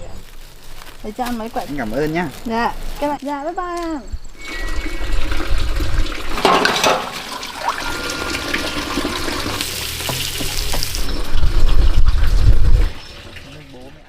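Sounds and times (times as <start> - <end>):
water running and splashing: 0.0 - 14.0.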